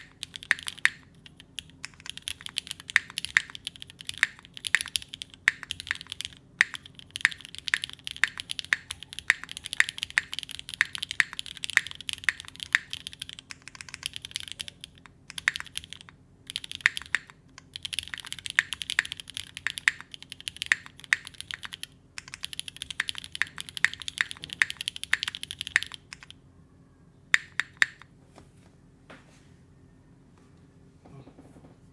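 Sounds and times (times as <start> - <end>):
mechanical keyboard typing: 0.0 - 26.4, 27.3 - 28.1.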